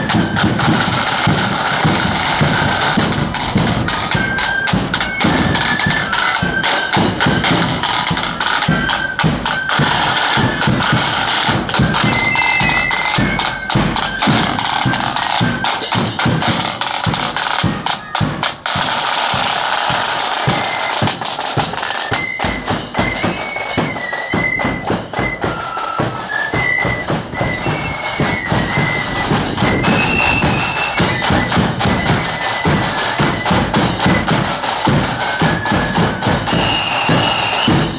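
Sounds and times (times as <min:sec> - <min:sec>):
flutes playing high melody: 0:00.0 - 0:37.9
side drum beating: 0:00.0 - 0:37.9.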